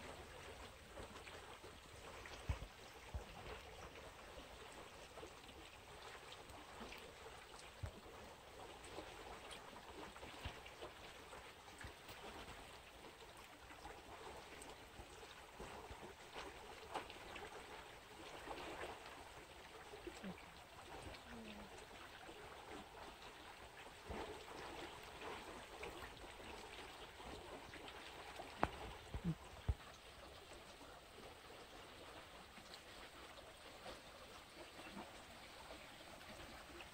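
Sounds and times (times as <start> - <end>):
water lapping against rocky bank: 0.0 - 36.9.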